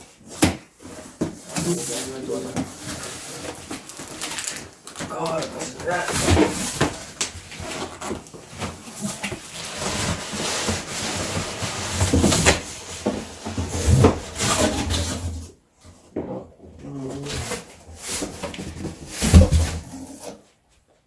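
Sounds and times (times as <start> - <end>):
cardboard boxes scraping: 0.2 - 4.6, 5.6 - 15.6, 17.0 - 20.4.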